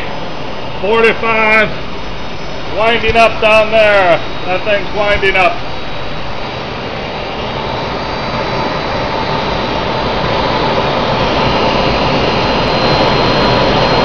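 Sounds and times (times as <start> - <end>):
flywheel machine rush with whine: 0.0 - 14.0.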